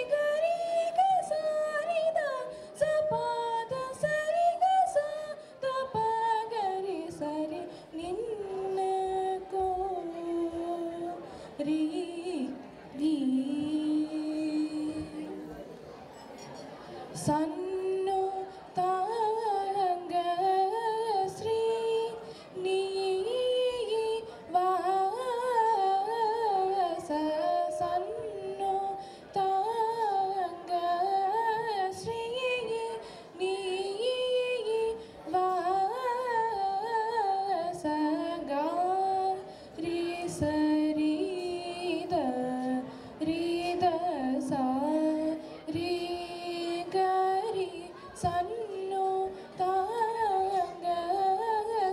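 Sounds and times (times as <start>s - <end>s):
young woman singing: 0.0s - 15.6s, 17.1s - 51.9s.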